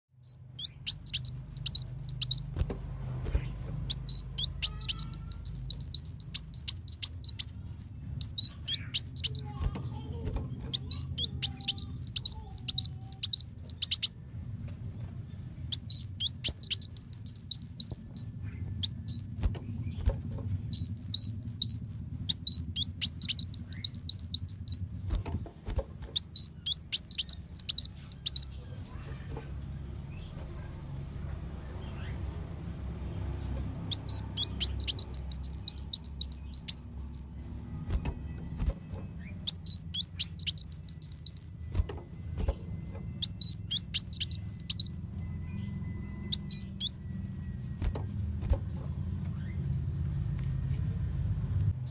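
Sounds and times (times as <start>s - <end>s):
faint low hum: 0.2s - 51.9s
sunbird chirping: 0.2s - 51.9s.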